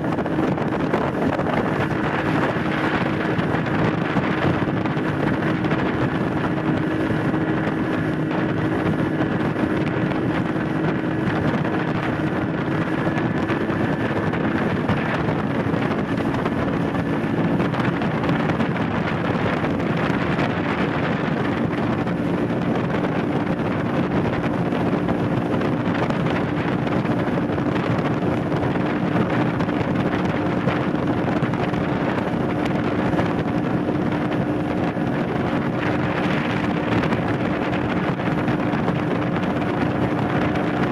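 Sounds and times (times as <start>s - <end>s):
outboard engine running: 0.0s - 40.9s
water rushing past hull: 0.0s - 40.9s
wind buffeting microphone: 0.0s - 40.9s.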